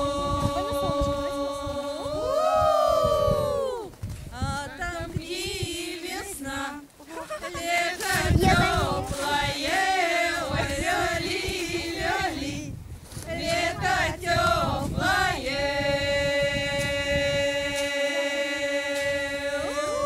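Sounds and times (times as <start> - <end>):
women's choir singing unaccompanied: 0.0 - 20.0.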